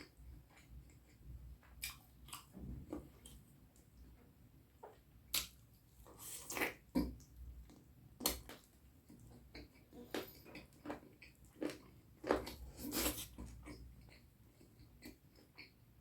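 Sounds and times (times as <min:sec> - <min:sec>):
person chewing food: 0:00.0 - 0:15.9.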